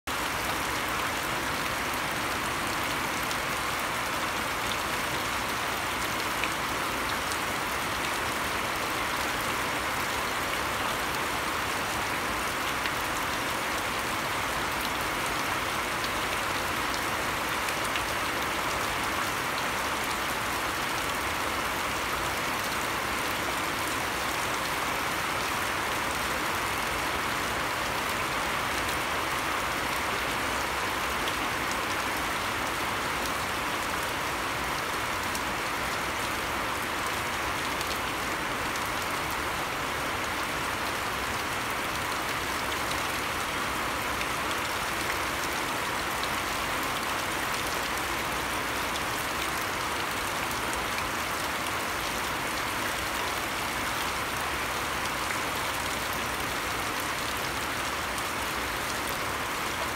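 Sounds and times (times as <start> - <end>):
rain falling on grass: 0.0 - 59.9.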